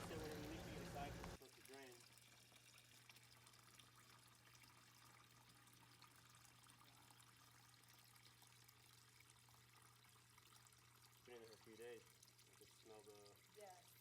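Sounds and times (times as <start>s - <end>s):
water trickling into a bucket: 0.0s - 14.0s.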